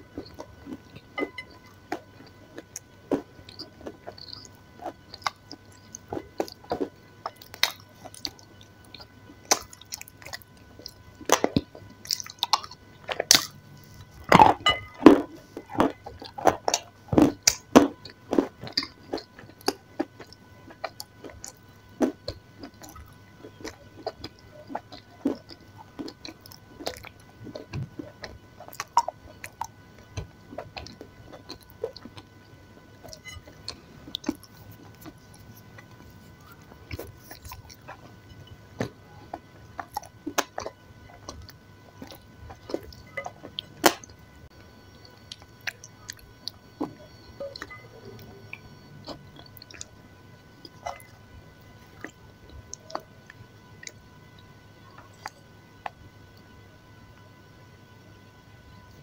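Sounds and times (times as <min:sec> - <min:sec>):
person chewing food: 0:00.0 - 0:56.0
faint steady hum: 0:00.0 - 0:59.0.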